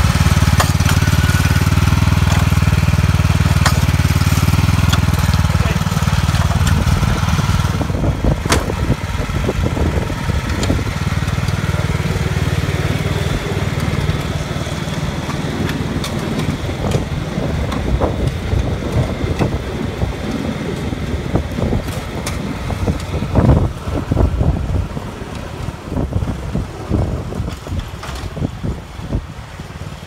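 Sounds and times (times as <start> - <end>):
riding mower engine running: 0.0 - 30.0.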